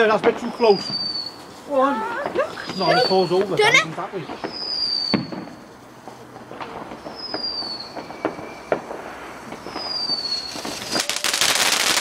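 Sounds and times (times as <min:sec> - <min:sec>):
dense crackling firework: 0:00.0 - 0:12.0
firework whistles: 0:00.0 - 0:12.0
fireworks pops and bangs: 0:00.0 - 0:12.0.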